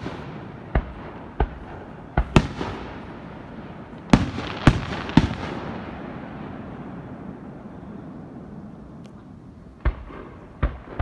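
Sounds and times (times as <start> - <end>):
fireworks bursting with echo: 0.0 - 8.8, 9.6 - 11.0.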